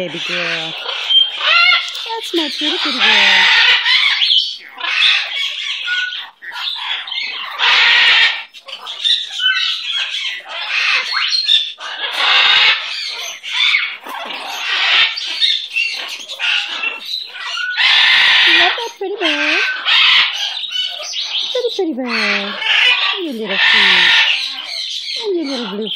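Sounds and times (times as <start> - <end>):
parrot chatter: 0.0 - 25.9
parrot squawking: 0.0 - 25.9.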